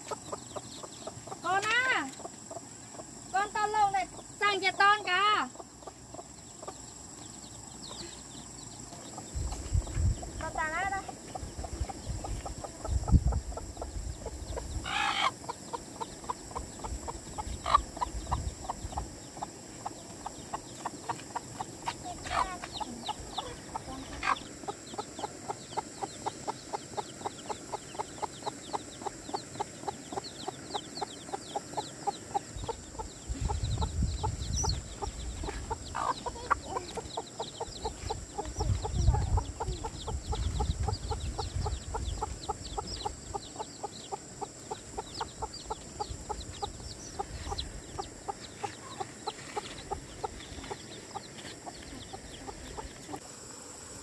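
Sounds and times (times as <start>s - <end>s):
chicken calls: 0.0s - 53.4s
chickens clucking: 0.0s - 53.5s.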